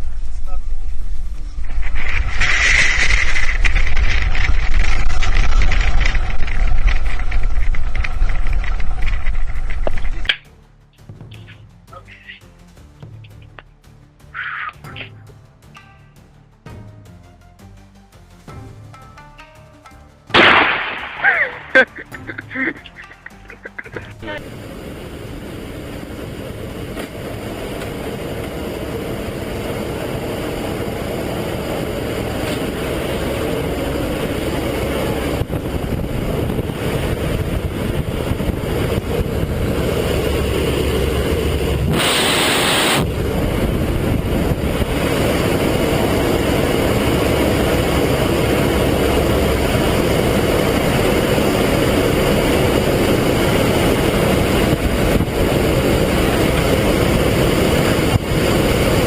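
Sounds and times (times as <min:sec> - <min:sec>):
steady engine noise: 0:00.0 - 0:17.0, 0:20.3 - 0:59.0.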